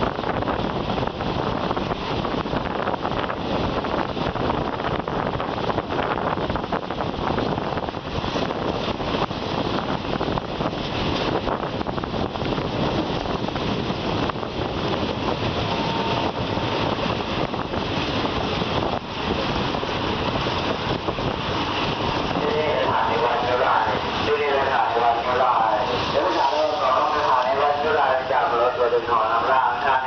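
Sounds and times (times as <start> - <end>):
train rumbling on track: 0.0 - 30.0
wind buffeting microphone: 0.0 - 30.0.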